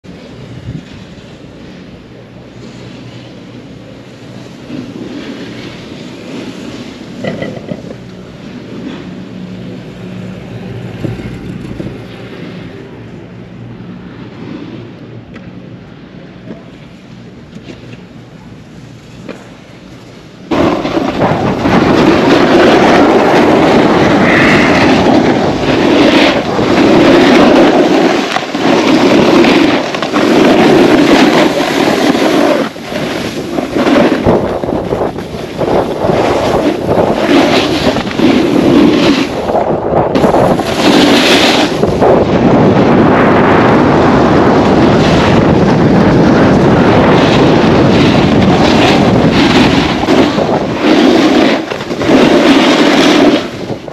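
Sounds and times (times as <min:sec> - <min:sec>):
wind buffeting microphone: 0:00.0 - 0:53.9
skis scraping over snow: 0:00.1 - 0:13.0, 0:18.7 - 0:53.9.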